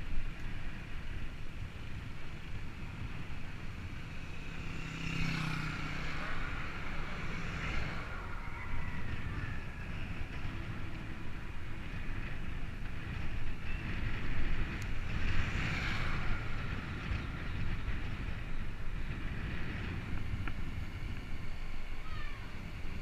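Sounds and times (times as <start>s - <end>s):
road noise: 0.0s - 23.0s
wind rumbling on microphone: 0.0s - 23.0s.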